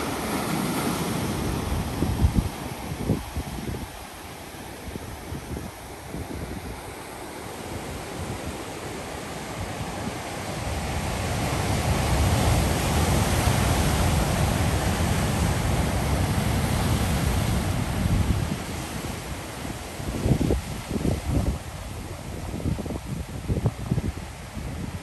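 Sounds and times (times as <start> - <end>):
ocean waves rushing: 0.0 - 25.0.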